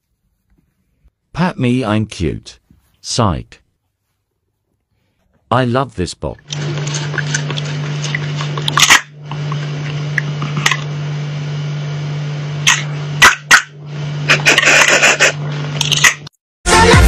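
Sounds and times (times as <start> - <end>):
low mechanical hum: 0.0 - 16.4.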